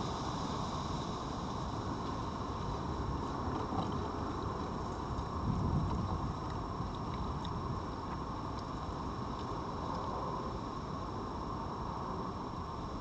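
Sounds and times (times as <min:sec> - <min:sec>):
low outdoor rumble and hiss: 0:00.0 - 0:13.0.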